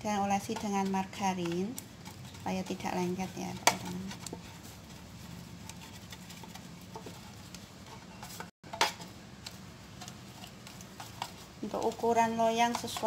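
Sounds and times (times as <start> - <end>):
pastry brush scraping metal pan: 0.1 - 13.0.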